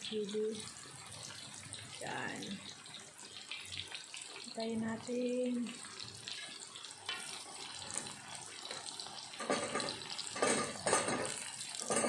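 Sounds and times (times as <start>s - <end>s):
slices deep-frying in oil: 0.0s - 12.0s.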